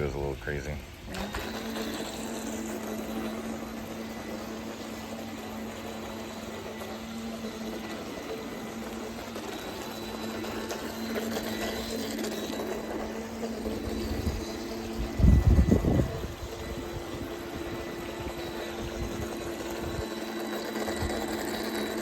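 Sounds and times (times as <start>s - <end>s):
rc boat motor whine: 0.0s - 22.0s.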